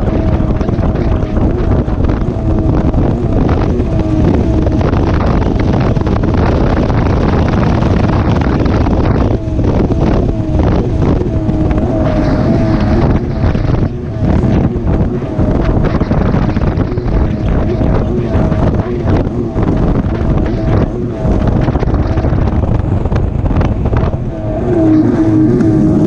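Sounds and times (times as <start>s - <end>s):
watercraft engine drone: 0.0s - 26.0s
wind buffeting microphone: 0.0s - 26.0s.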